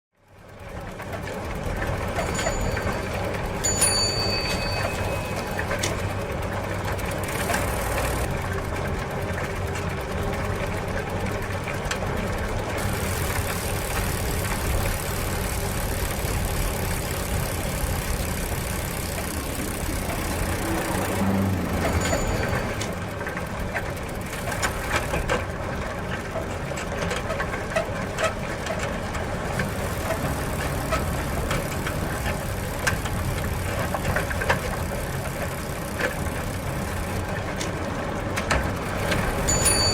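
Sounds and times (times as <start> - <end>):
bicycle wheels and chain running: 0.2 - 39.9.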